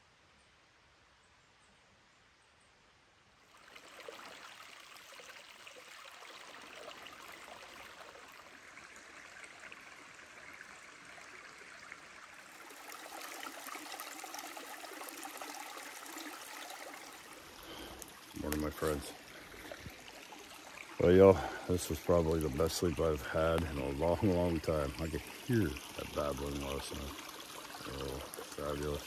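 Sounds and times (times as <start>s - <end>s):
river babbling over stones: 3.4s - 29.0s.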